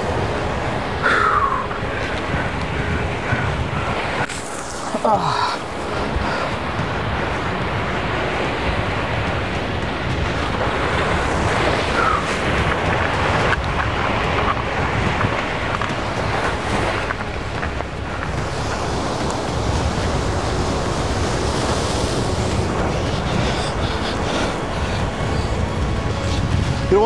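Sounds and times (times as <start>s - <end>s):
surf breaking on rocks: 0.0s - 27.0s
wind buffeting microphone: 0.0s - 27.0s.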